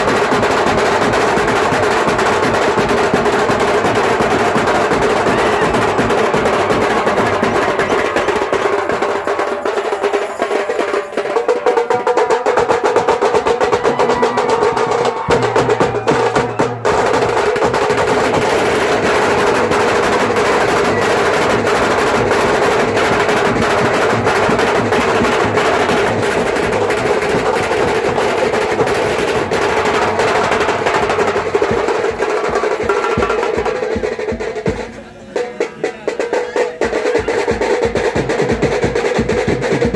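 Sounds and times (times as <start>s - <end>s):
dense drumming: 0.0s - 39.9s
snare drum rolls: 0.0s - 39.9s.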